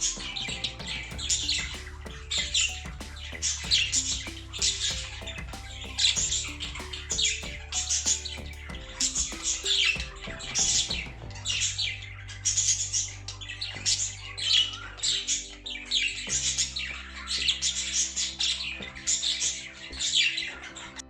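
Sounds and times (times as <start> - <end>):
background music with low notes: 0.0 - 21.0.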